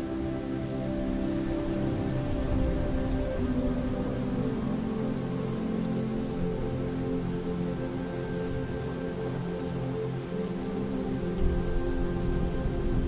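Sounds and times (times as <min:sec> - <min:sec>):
soft piano music: 0:00.0 - 0:13.0
steady rainfall: 0:00.0 - 0:13.0.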